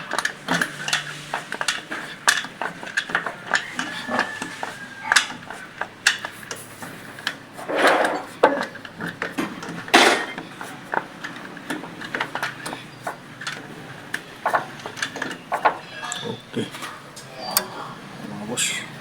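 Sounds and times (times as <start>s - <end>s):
metal hand tools clinking: 0.0s - 16.7s
metal scraping: 0.0s - 17.0s.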